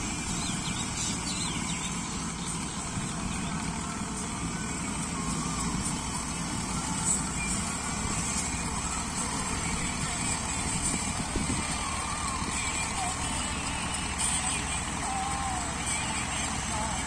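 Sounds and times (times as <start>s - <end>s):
cutter shredding dry leaves: 0.0s - 17.0s
tractor diesel engine running: 0.0s - 17.0s.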